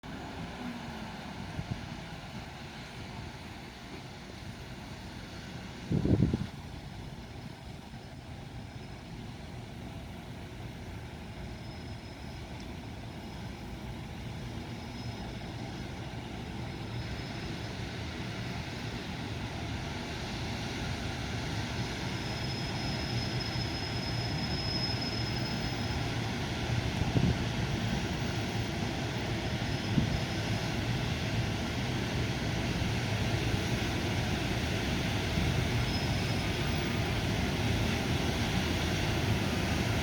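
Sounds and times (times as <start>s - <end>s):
freight train rumbling: 0.0s - 40.0s.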